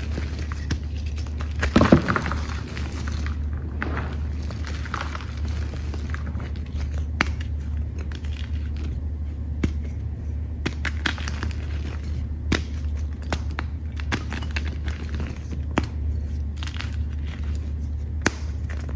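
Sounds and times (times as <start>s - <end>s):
chalk crunching: 0.0s - 18.9s
steady low hum: 0.0s - 18.9s.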